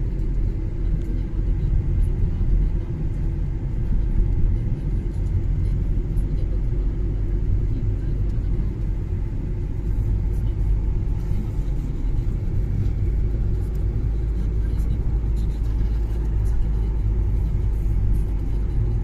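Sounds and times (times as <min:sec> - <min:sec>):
car driving on snowy road: 0:00.0 - 0:19.0.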